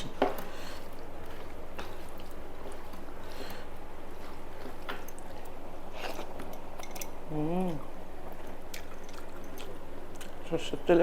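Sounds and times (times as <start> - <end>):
person eating by hand: 0.0 - 10.6
steady background hum: 0.0 - 11.0.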